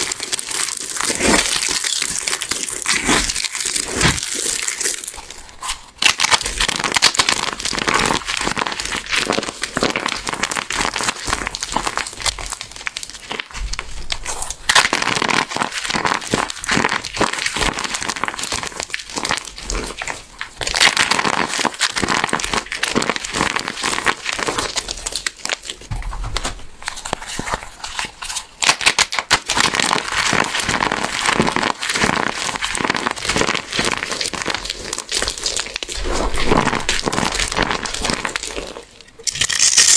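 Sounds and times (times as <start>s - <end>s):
soap blocks crunching: 0.0s - 39.9s.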